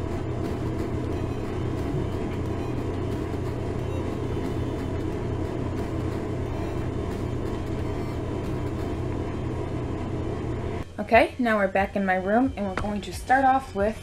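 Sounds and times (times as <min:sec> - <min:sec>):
steady low hum and rumble: 0:00.0 - 0:14.0.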